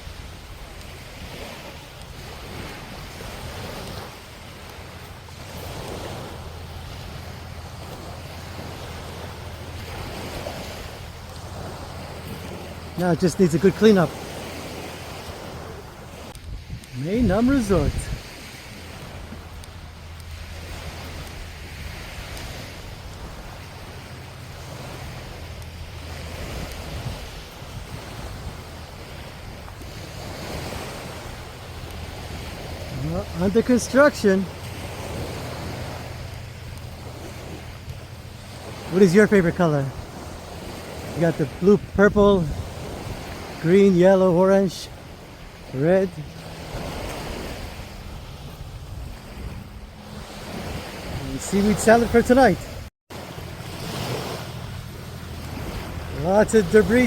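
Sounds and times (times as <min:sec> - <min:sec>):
small surf breaking on sand: 0:00.0 - 0:57.0
small waves washing on beach: 0:00.0 - 0:57.0
wind buffeting microphone: 0:00.0 - 0:57.0.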